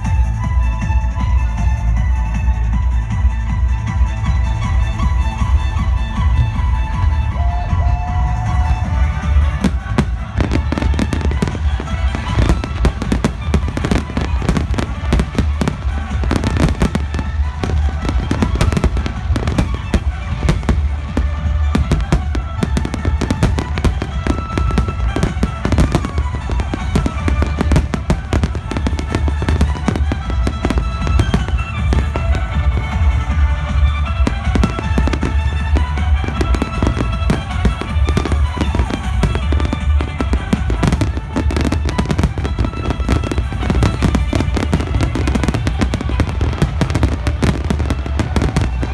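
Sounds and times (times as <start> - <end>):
music playing: 0.0 - 48.9
fireworks bursting: 7.5 - 48.9.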